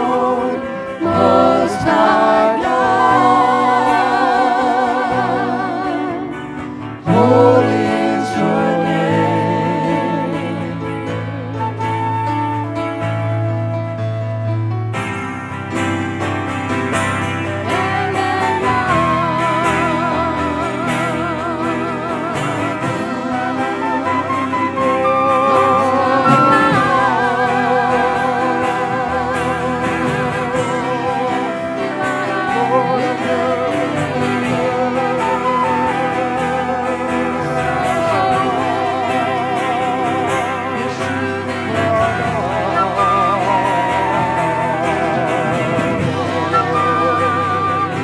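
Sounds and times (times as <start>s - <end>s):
guitar chords: 0.0s - 48.0s
vibrato melody: 0.0s - 48.0s
worship band music: 0.0s - 48.0s.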